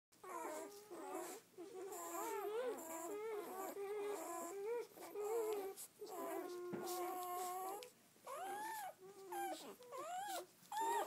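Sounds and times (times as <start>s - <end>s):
puppies squeaking and whimpering: 0.2s - 11.0s.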